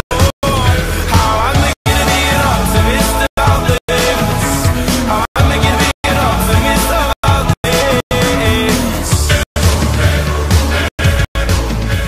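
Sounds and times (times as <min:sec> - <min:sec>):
instrumental background music: 0:00.1 - 0:12.0.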